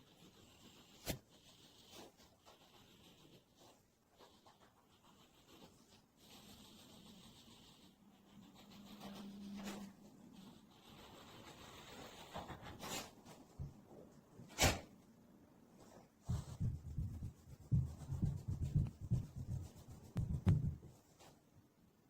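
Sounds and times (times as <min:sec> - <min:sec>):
faint scratchy rubbing: 0:00.0 - 0:14.9, 0:15.8 - 0:21.4.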